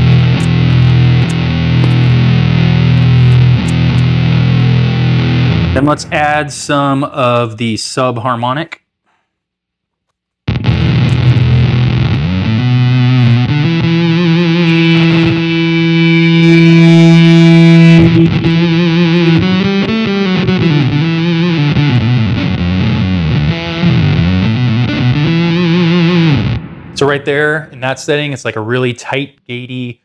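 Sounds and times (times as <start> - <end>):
electric guitar fuzz-synth tone: 0.0 - 7.4, 10.5 - 27.8.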